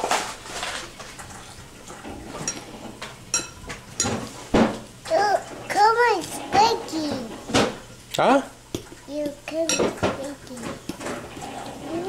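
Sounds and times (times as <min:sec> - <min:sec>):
kitchen utensils and dishes clinking: 0:00.0 - 0:07.9, 0:08.9 - 0:12.0.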